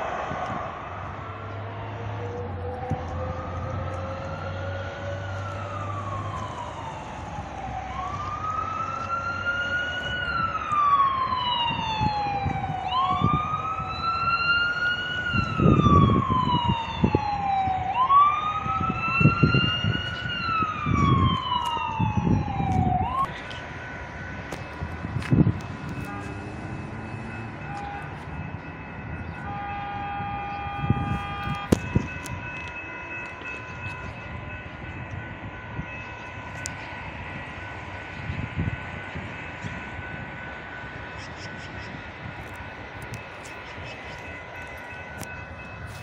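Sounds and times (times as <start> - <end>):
siren wailing: 0.0 - 46.0.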